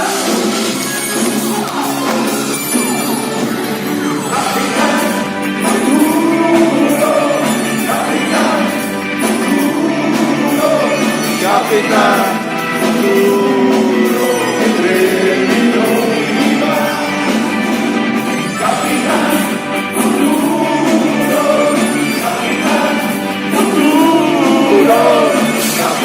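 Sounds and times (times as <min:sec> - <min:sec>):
live band music: 0:00.0 - 0:26.0
people singing: 0:00.0 - 0:26.0.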